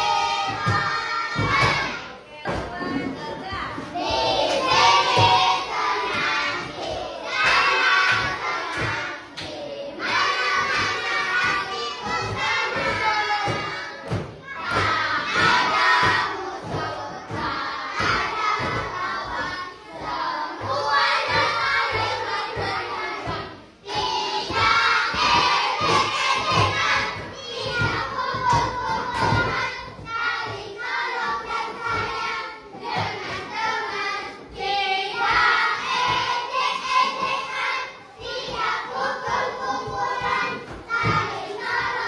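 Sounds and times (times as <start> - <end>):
thumps: 0.1 - 42.0.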